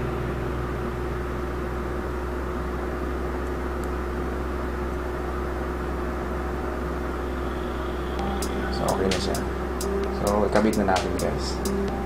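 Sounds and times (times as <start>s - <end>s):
power supply fan whirring: 0.0s - 12.0s.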